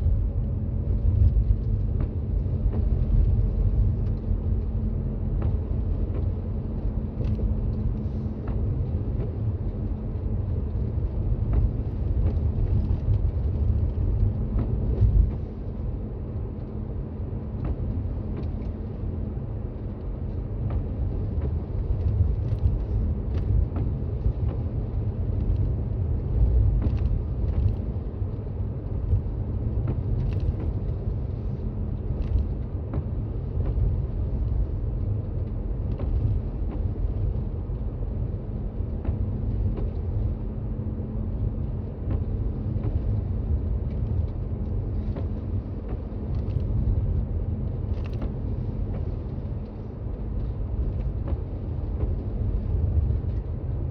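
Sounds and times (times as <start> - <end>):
car driving rumble: 0.0 - 53.9.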